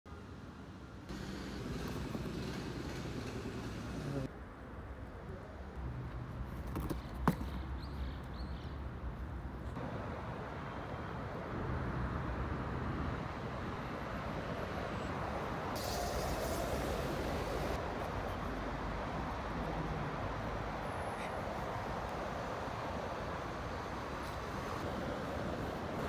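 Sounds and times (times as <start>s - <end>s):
outdoor street noise: 0.0s - 26.0s.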